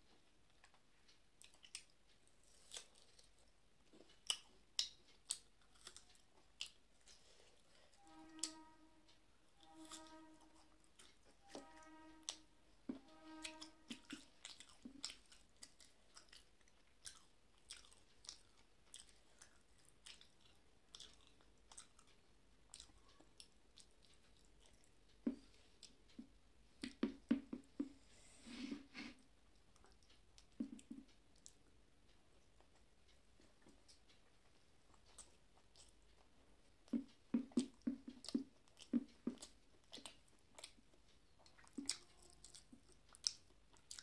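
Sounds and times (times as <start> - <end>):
soft chewing: 0.0 - 44.0.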